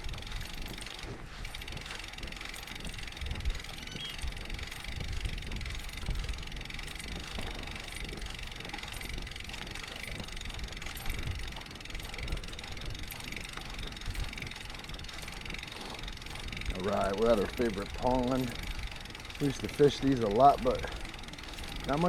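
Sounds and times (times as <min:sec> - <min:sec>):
bicycle freewheel ticking: 0:00.0 - 0:22.0
low rumble from riding: 0:00.0 - 0:22.0.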